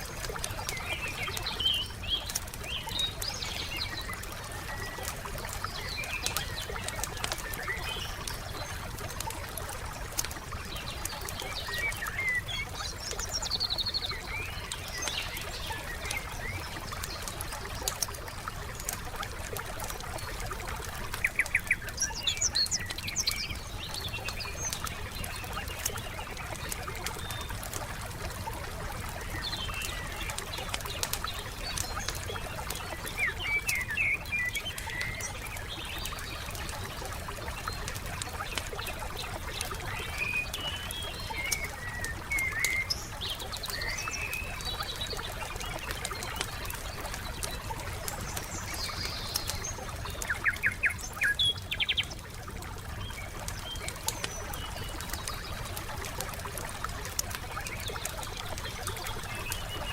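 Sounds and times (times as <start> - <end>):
wood fire crackling: 0.0 - 11.4, 13.0 - 43.7, 44.5 - 59.8
songbirds chirping: 0.0 - 59.9.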